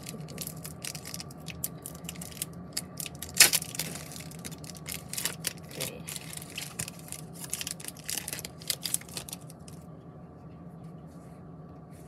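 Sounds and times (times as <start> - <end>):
plastic and foil packaging crinkling: 0.0 - 9.8.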